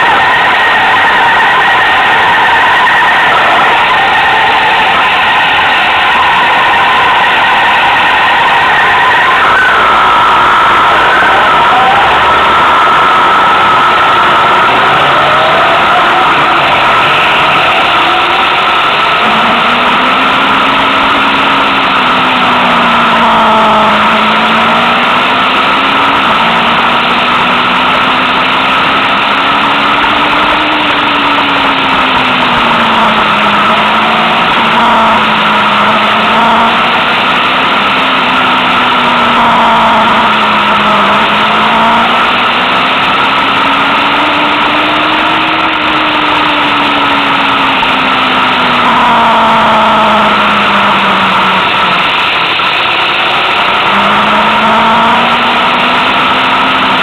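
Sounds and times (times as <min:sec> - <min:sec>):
motorcycle engine: 0:00.0 - 0:57.0
wind and road noise: 0:00.0 - 0:57.0.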